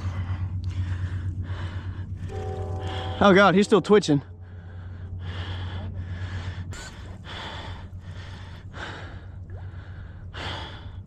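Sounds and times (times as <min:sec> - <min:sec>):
man breathing hard: 0:00.0 - 0:03.2, 0:04.3 - 0:11.0.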